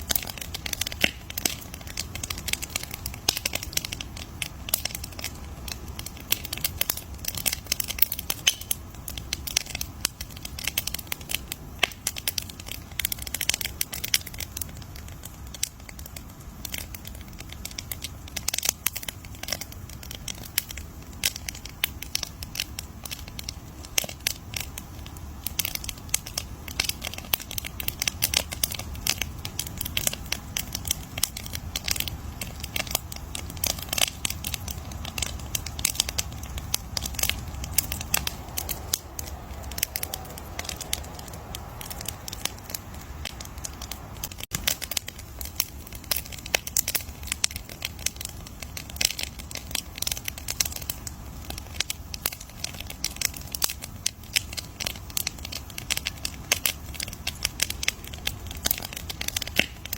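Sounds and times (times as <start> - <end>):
campfire crackling and popping: 0.0 - 59.9
low rumble of flames: 0.0 - 59.9.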